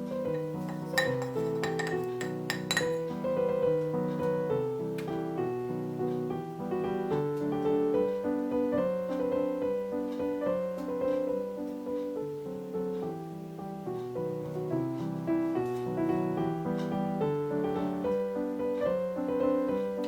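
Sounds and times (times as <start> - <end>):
solo piano music: 0.0 - 20.0.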